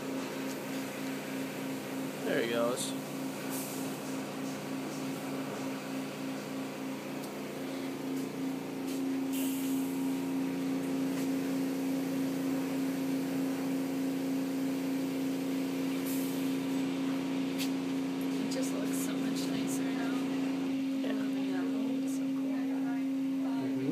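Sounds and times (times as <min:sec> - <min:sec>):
car wash machinery humming: 0:00.0 - 0:23.9.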